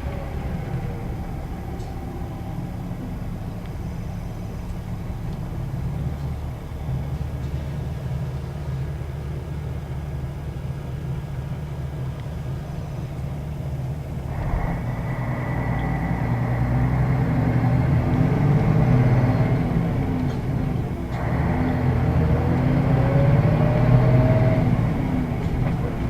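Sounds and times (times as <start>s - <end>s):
bus diesel engine: 0.0s - 26.0s
thin high engine whine: 0.0s - 26.0s.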